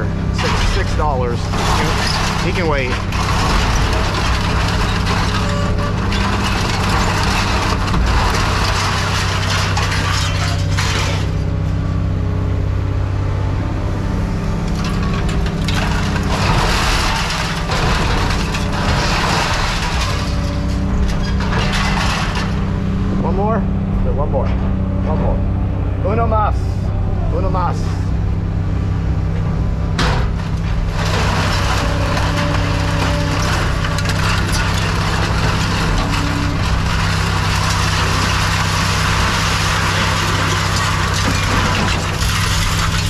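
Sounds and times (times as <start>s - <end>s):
heavy machinery droning: 0.0s - 43.0s
scrap metal crunching and scraping: 0.0s - 43.0s.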